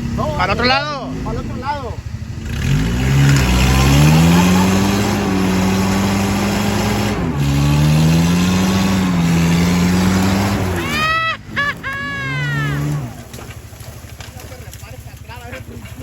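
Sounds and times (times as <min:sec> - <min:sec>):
vehicle engine revving hard: 0:00.0 - 0:14.5.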